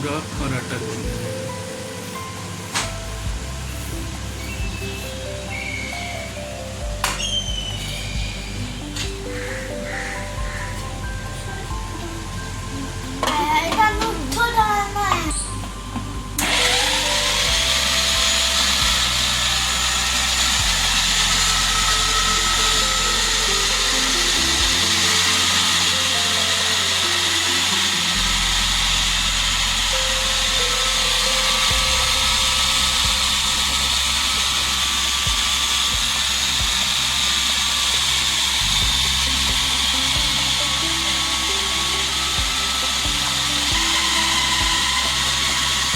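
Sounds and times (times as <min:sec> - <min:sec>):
background music: 0:00.0 - 0:45.9
kneading machine motor whine: 0:00.0 - 0:45.9.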